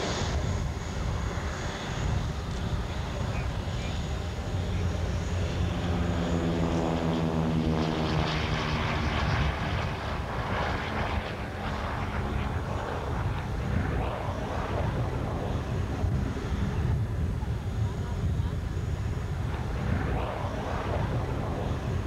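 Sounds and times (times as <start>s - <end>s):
propeller plane engines taking off: 0.0s - 22.0s
wind rumbling on microphone: 0.0s - 22.0s.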